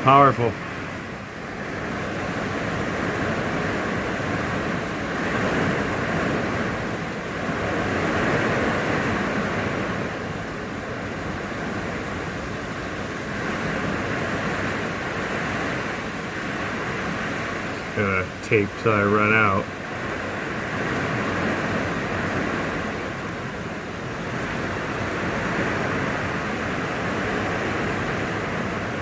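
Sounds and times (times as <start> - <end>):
strong wind gusts: 0.0 - 29.0.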